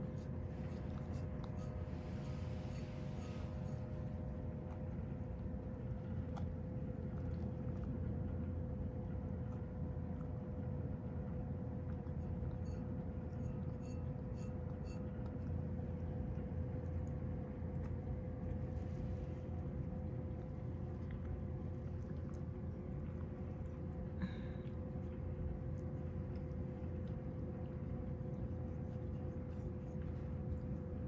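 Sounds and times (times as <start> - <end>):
cat lapping: 0.0 - 31.0
low rumble and hum: 0.0 - 31.0.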